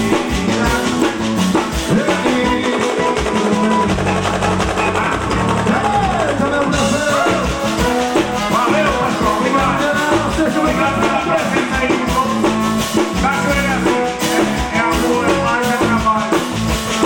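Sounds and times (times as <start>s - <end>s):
live band music: 0.0s - 17.0s
steady drum beat: 0.0s - 17.0s.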